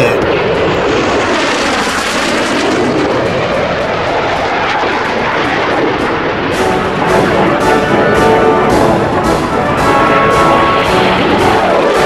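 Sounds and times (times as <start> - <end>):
jet flying overhead: 0.0 - 12.0.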